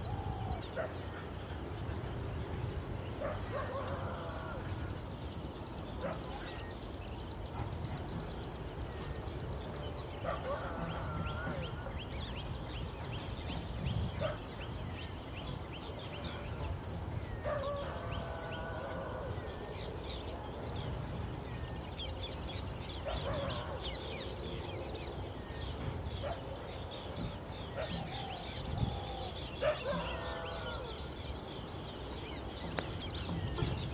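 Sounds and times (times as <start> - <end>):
insect and bird chirps: 0.0 - 33.9
wild birds calling: 0.0 - 33.9.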